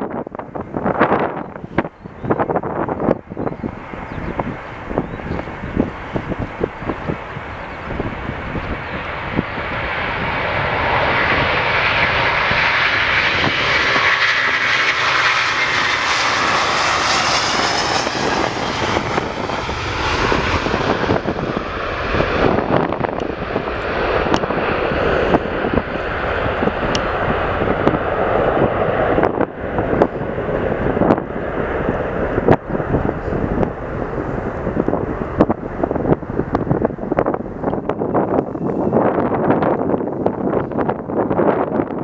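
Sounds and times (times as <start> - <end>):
jet airliner engine roar: 0.0 - 42.0
wind buffeting microphone: 0.0 - 42.0.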